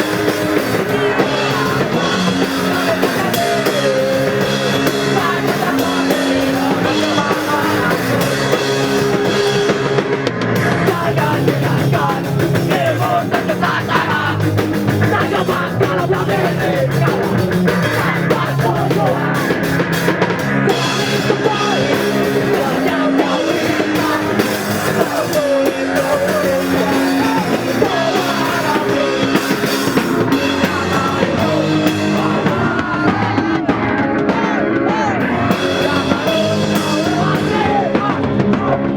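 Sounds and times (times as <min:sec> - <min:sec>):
person singing: 0:00.0 - 0:19.6, 0:20.7 - 0:38.9
drum kit: 0:00.0 - 0:38.9.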